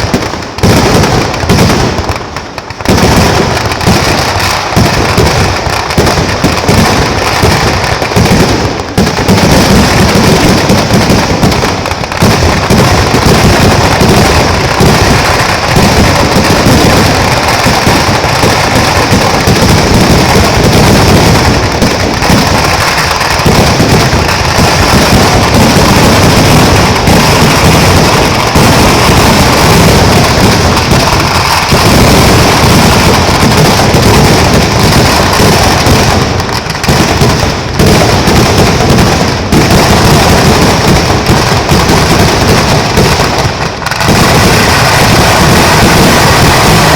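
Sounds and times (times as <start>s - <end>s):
firecracker barrage: 0.0s - 46.9s.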